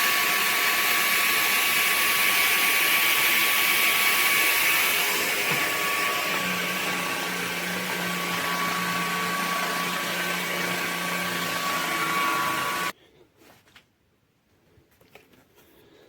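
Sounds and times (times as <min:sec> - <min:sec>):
stick vacuum running: 0:00.0 - 0:12.9.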